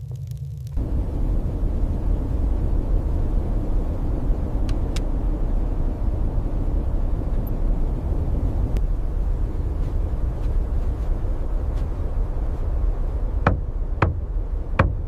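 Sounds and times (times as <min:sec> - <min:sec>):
strong wind blowing: 0:00.8 - 0:15.0.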